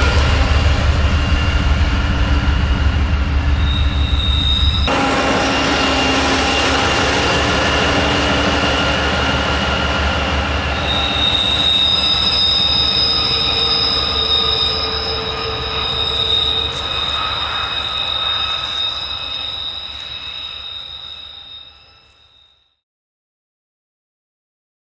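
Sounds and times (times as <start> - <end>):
train rolling noise: 0.0 - 22.4
train wheels squealing: 1.0 - 22.8.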